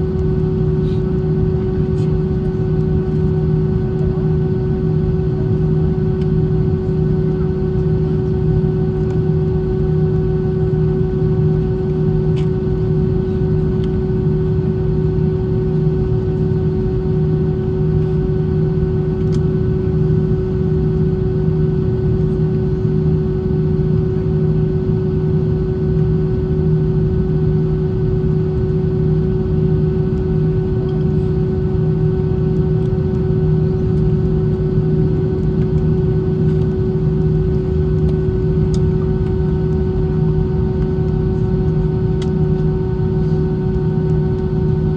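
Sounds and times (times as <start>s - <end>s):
airplane engine drone: 0.0s - 44.9s
constant hum: 0.0s - 44.9s.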